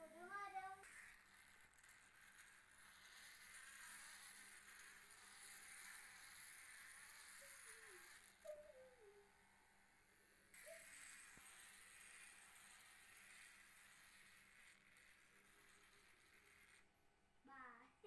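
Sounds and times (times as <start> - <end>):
toy robot motor buzzing: 0.0 - 16.9.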